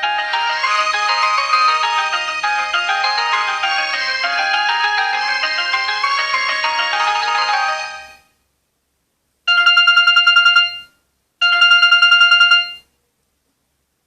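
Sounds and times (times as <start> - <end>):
pulsing electronic phone ring: 0.0 - 8.2, 9.5 - 12.9
melodic phone ringtone: 0.0 - 8.3, 9.5 - 12.9.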